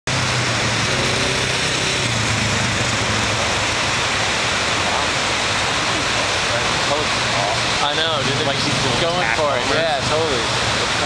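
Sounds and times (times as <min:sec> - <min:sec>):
ocean surf breaking: 0:00.1 - 0:11.0.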